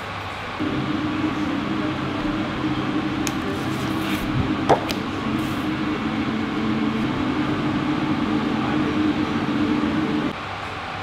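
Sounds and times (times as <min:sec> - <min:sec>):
restaurant background hum: 0:00.0 - 0:11.0.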